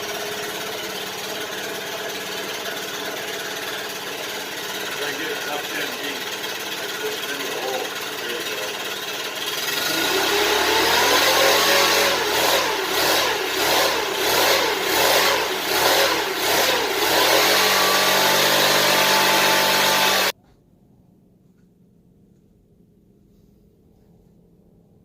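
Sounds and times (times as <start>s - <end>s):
leaf blower engine revving: 0.0s - 20.4s.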